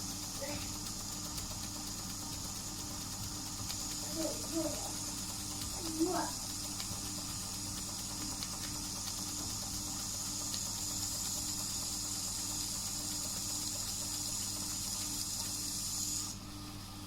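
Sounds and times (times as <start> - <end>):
steam engine hissing and humming: 0.0 - 16.4.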